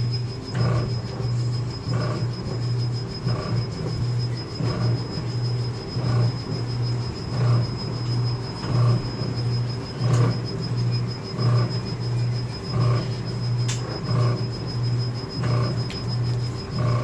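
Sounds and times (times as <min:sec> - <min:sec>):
faint high whine: 0:00.0 - 0:17.0
ride motor humming: 0:00.0 - 0:17.0.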